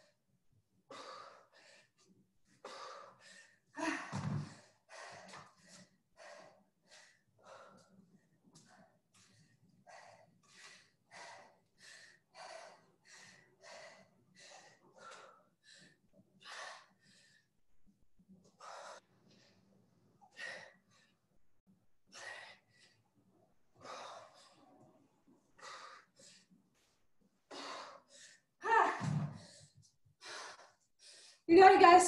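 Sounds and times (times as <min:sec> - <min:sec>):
person breathing hard: 0:00.9 - 0:17.5, 0:18.6 - 0:21.3, 0:22.1 - 0:23.1, 0:23.8 - 0:24.8, 0:25.6 - 0:26.5, 0:27.5 - 0:28.6, 0:29.2 - 0:31.5.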